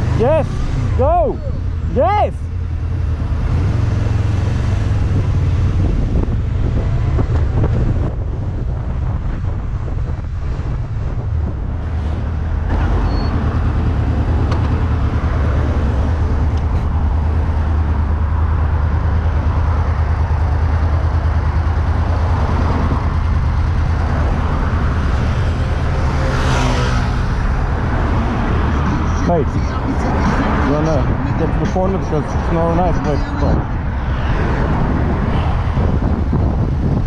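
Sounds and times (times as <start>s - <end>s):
motorcycle engine: 0.0s - 37.0s
wind rumble: 0.0s - 37.0s.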